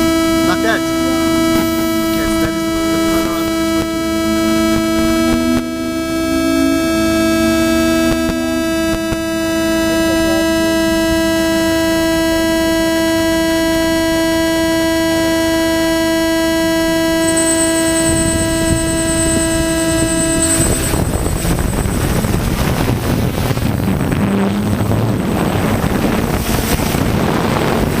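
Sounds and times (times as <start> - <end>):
drone rotors rushing: 0.0 - 11.4, 17.0 - 28.0
steady high buzz: 0.0 - 28.0
wind: 0.0 - 28.0.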